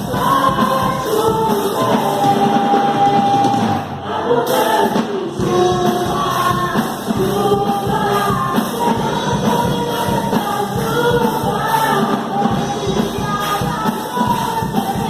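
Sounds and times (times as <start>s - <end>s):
choir singing: 0.0s - 15.0s
gospel worship song: 0.0s - 15.0s.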